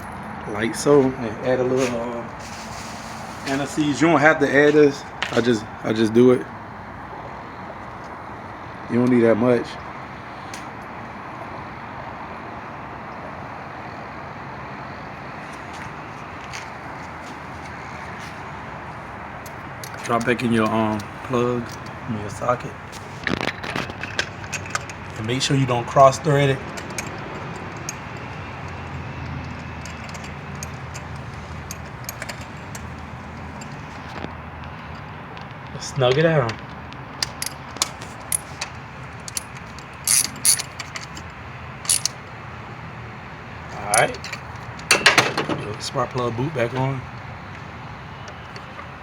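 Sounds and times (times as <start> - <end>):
outdoor background noise: 0.0 - 49.0.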